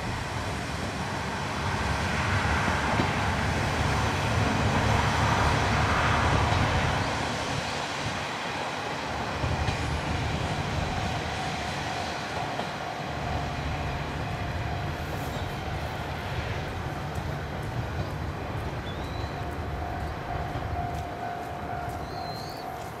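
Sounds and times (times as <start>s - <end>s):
diesel railcars rumbling with whine: 0.0s - 23.0s.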